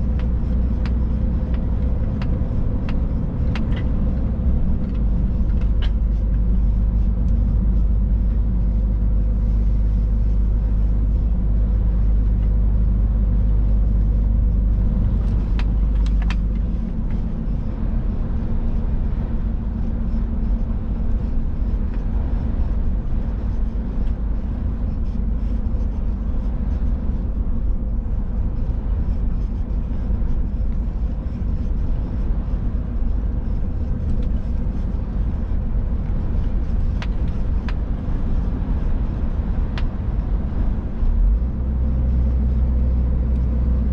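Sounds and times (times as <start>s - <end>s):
truck engine and road noise: 0.0s - 43.9s.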